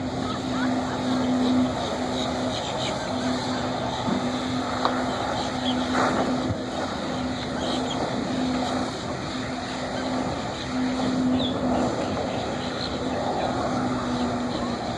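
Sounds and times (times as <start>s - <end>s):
jet ski engine droning: 0.0s - 14.9s.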